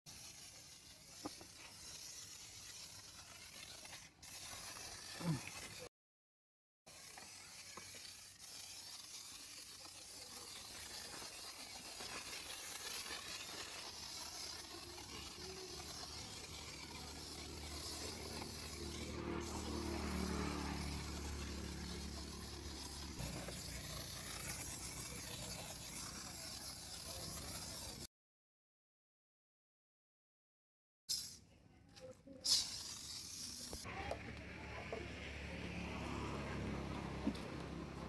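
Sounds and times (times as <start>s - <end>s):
garden hose spraying water: 0.1s - 5.9s, 6.9s - 28.1s, 31.1s - 31.4s, 32.3s - 38.0s.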